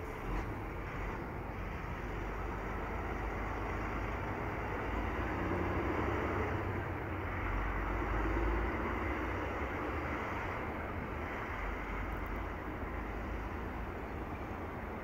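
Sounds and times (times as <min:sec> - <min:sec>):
diesel engine rumbling under load: 0:00.0 - 0:15.0.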